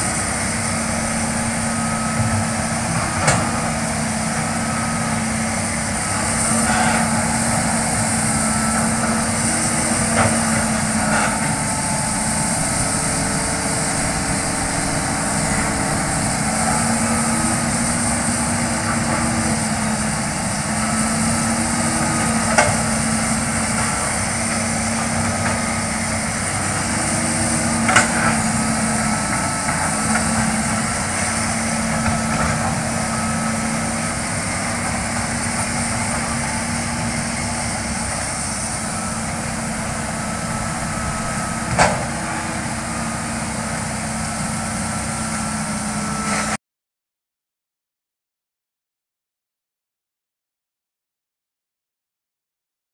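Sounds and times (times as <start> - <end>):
excavator diesel engine running: 0.0 - 46.6.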